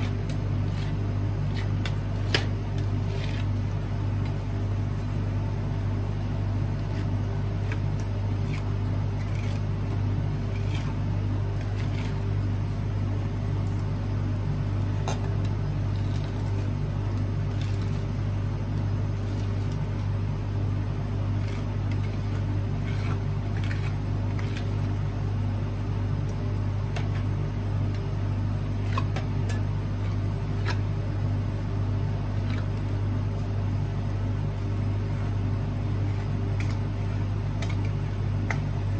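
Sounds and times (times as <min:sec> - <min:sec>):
refrigeration unit humming: 0:00.0 - 0:38.9.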